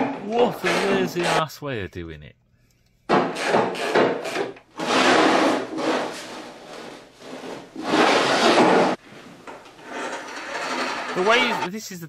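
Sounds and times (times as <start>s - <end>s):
rubbing and scraping: 0.0s - 1.5s, 3.2s - 11.7s.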